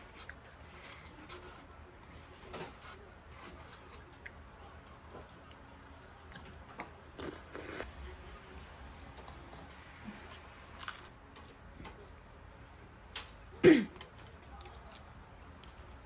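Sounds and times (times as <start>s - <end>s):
quiet chewing: 0.0s - 12.4s, 13.2s - 16.0s.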